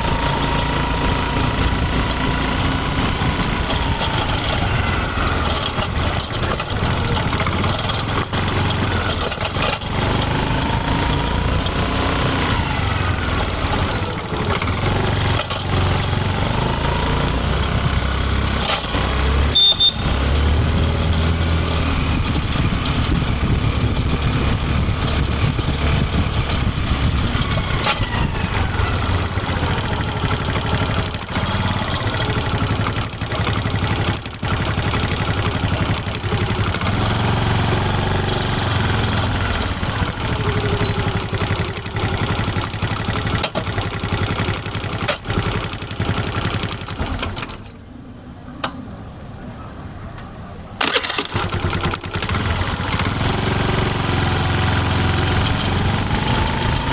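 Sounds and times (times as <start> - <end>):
scooter engine revving: 0.0 - 47.6, 50.8 - 56.9.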